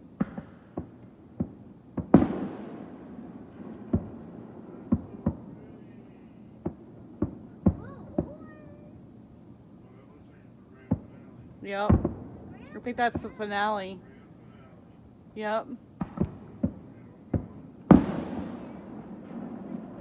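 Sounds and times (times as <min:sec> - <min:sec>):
fireworks bangs: 0:00.0 - 0:09.0, 0:09.8 - 0:14.7, 0:15.4 - 0:20.0
fireworks rumble: 0:00.0 - 0:20.0.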